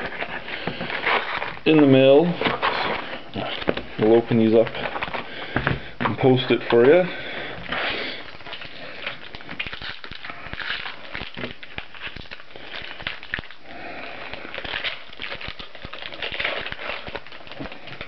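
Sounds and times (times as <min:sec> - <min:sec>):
card wrapper tearing and crinkling: 0:00.0 - 0:05.3, 0:06.0 - 0:18.0.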